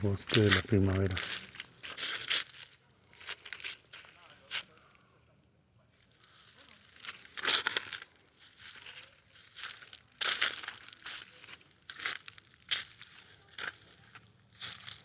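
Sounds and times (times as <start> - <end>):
footsteps crunching on leaves: 0.0 - 4.8, 6.2 - 15.0.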